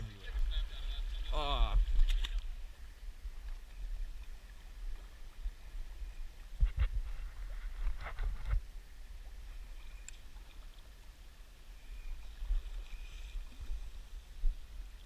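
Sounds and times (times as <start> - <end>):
river water running: 0.0 - 15.0.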